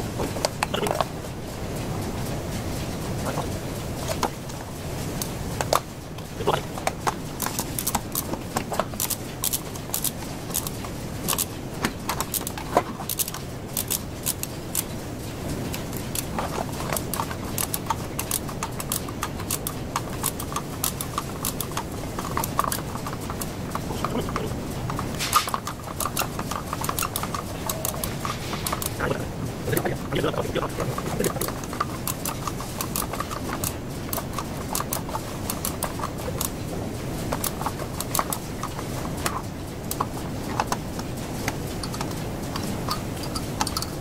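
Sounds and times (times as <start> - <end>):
low background hum: 0.0 - 44.0
hose reel parts clicking and knocking: 3.3 - 29.0, 29.6 - 44.0.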